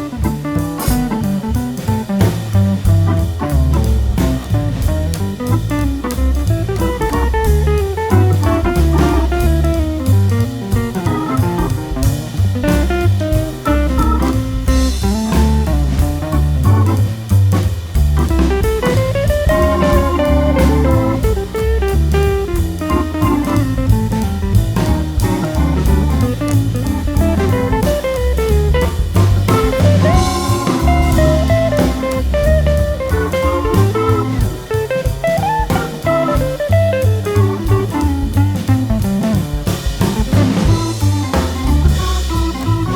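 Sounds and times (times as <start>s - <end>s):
blues jazz guitar music: 0.0s - 42.9s.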